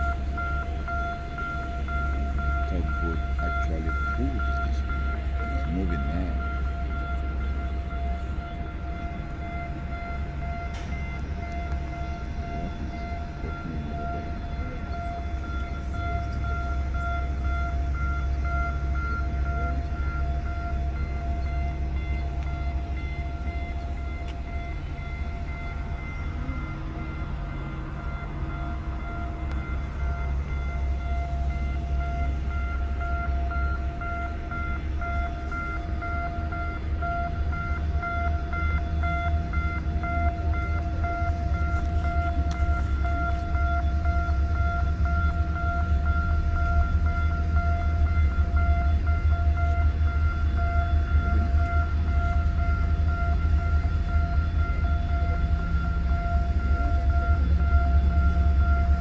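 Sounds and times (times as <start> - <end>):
constant machinery whine: 0.0 - 59.0
low ship machinery drone: 0.0 - 59.0.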